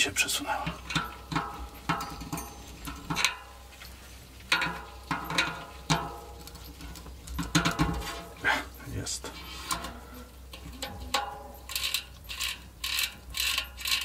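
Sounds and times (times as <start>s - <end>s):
metal bicycle parts clinking: 0.6s - 14.0s.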